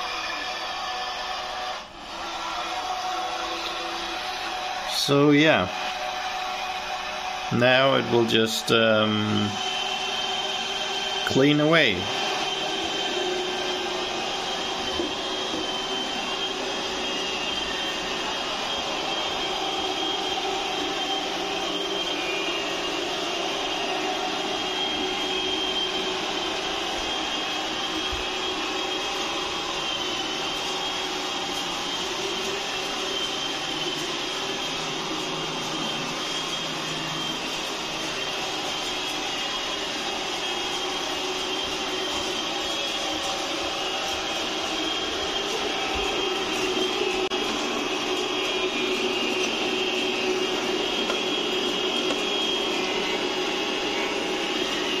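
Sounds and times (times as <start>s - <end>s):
robot vacuum motor hiss and whine: 0.0s - 55.0s.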